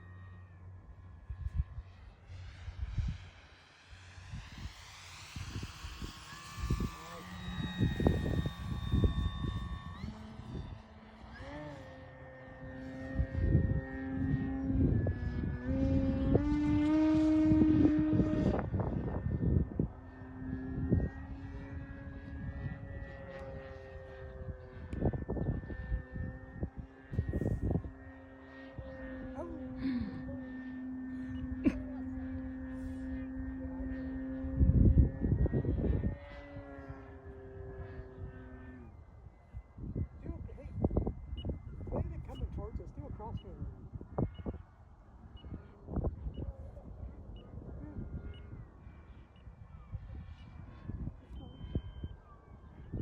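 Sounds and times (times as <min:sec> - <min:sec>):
model plane motor whine: 0:00.0 - 0:53.0
wind buffeting microphone: 0:04.2 - 0:53.0.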